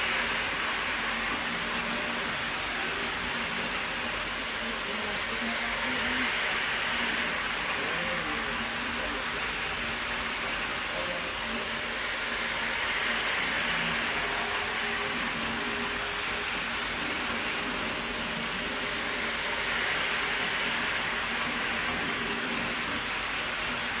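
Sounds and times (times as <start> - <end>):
model train motor whirring: 0.0 - 24.0.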